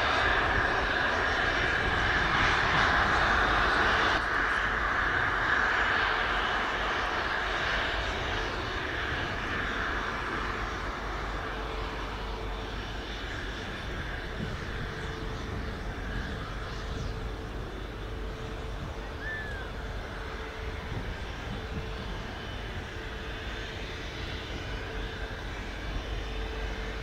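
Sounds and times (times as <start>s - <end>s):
jets taxiing hiss and rumble: 0.0s - 27.0s.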